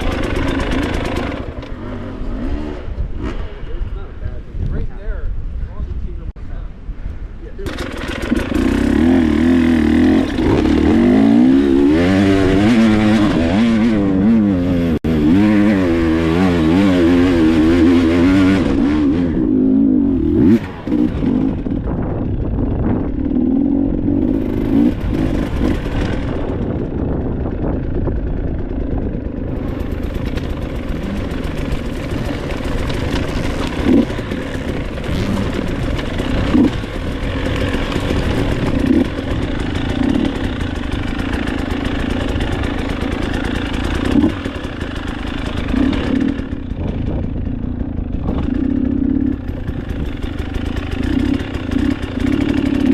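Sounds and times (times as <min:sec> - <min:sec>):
dirt bike engine revving: 0:00.0 - 0:04.2, 0:07.6 - 0:52.9.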